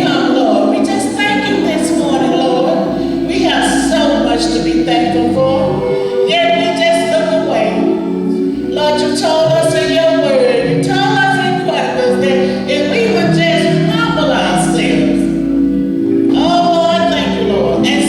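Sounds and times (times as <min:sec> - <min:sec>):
gospel choir singing: 0:00.0 - 0:18.0.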